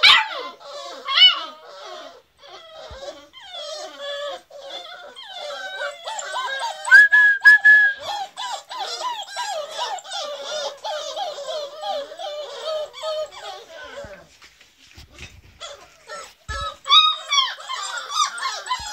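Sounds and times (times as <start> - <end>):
puppies whining: 0.0 - 18.9.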